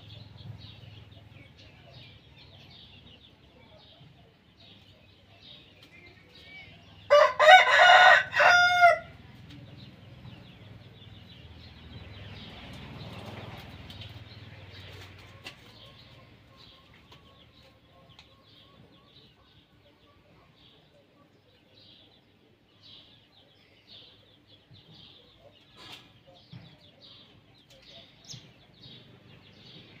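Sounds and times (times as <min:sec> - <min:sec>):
small birds chirping: 0:00.0 - 0:07.2, 0:09.3 - 0:30.0.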